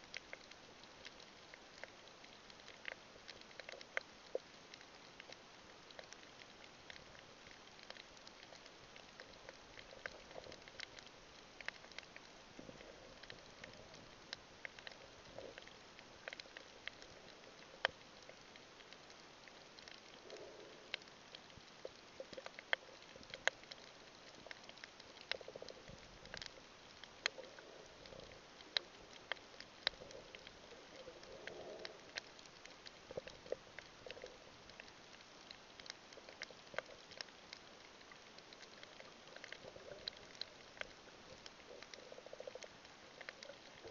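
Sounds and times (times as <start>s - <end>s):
soft low underwater sounds: 0.0s - 43.9s.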